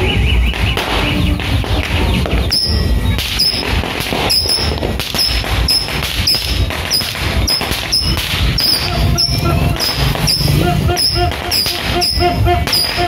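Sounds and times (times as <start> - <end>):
firework rockets firing: 0.4 - 13.0.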